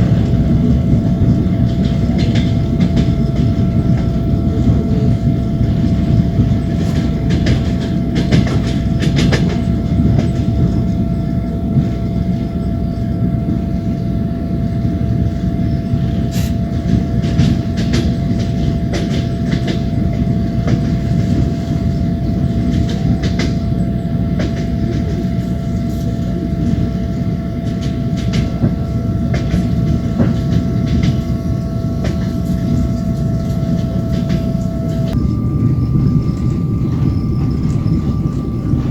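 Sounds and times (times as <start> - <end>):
wheels clicking over rail joints: 0.0 - 11.0, 16.4 - 38.9
steady high whine: 0.0 - 38.9
train wheels rumbling on rail: 0.0 - 38.9.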